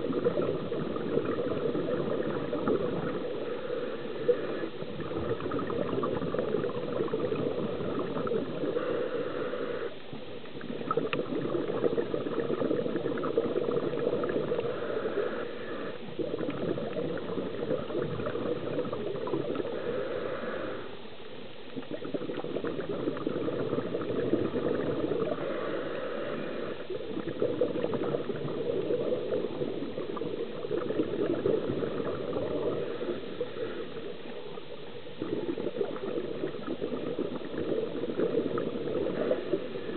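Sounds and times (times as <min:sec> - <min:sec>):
underwater regulator breathing bubbles: 0:00.0 - 0:21.0, 0:21.8 - 0:39.9.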